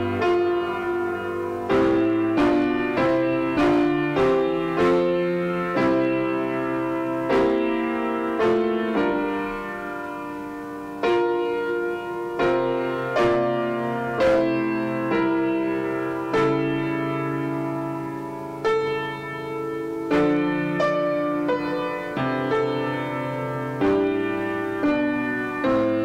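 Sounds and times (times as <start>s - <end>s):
slow classical piano chords: 0.0s - 26.0s.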